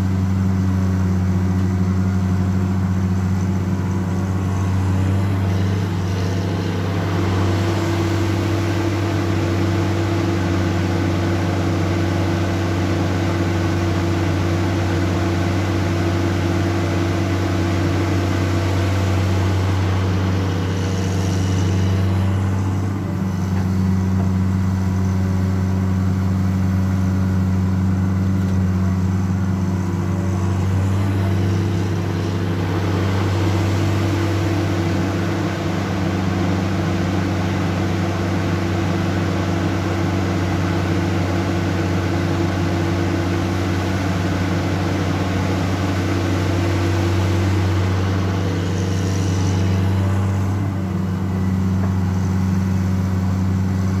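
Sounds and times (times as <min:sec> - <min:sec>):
excavator diesel engine droning: 0:00.0 - 0:54.0.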